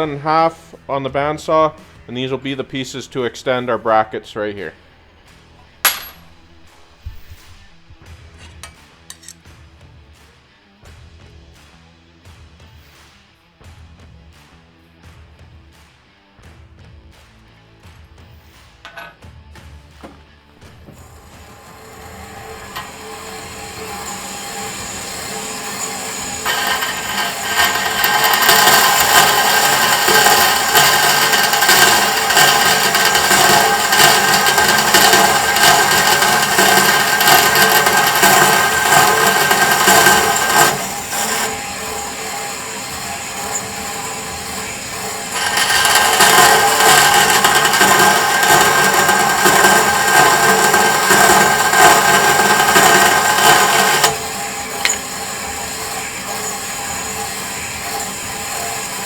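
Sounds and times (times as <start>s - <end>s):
bandsaw cutting metal: 0.0s - 9.4s, 20.0s - 59.0s.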